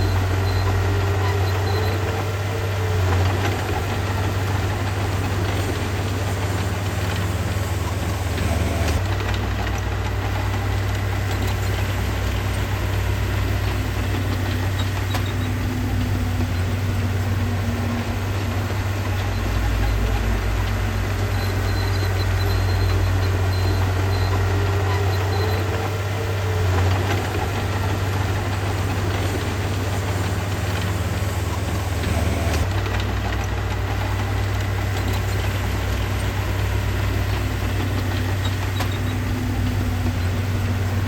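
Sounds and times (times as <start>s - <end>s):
diesel engine droning: 0.0s - 41.0s.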